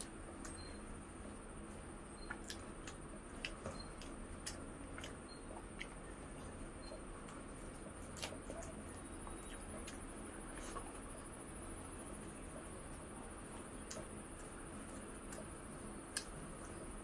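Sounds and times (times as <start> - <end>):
steady low hum: 0.0 - 17.0
wet chewing smacks: 1.7 - 11.2, 12.2 - 16.8.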